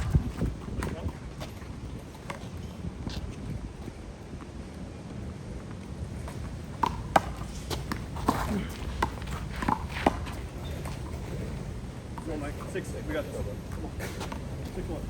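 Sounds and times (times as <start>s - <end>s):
footsteps on court: 0.0s - 15.0s.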